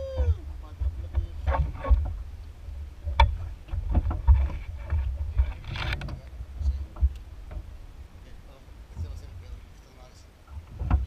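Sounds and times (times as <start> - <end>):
water and wind against boat hull: 0.0 - 11.0.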